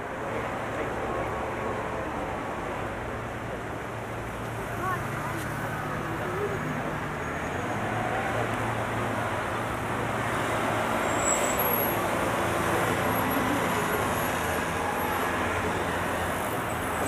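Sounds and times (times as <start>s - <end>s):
tyre and street noise: 0.0s - 17.0s
vehicle engines humming: 0.0s - 17.0s.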